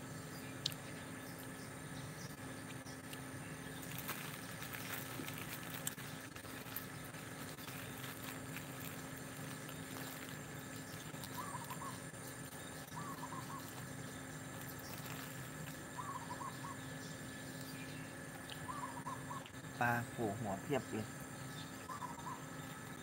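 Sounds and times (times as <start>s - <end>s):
bird calling: 0.4s - 23.0s.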